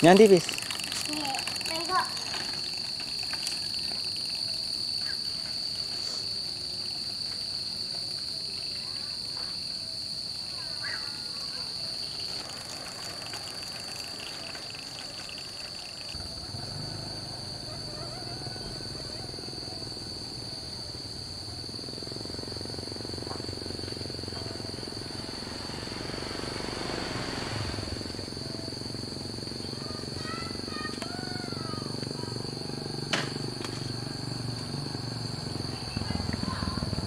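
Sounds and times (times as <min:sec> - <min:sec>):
crickets trilling: 0:00.0 - 0:37.0.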